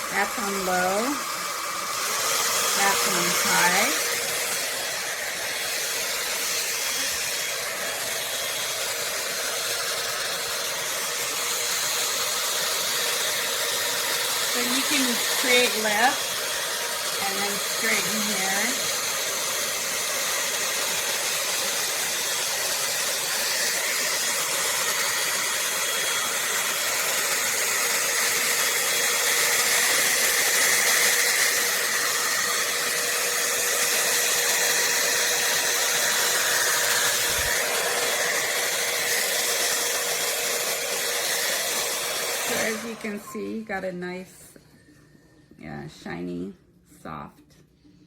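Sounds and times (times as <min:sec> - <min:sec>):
hot-air brush fan blowing: 0:00.0 - 0:44.9.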